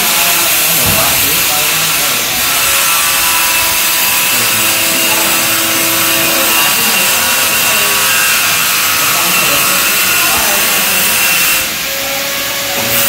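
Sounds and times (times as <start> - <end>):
loud steady hissing: 0.0 - 13.0.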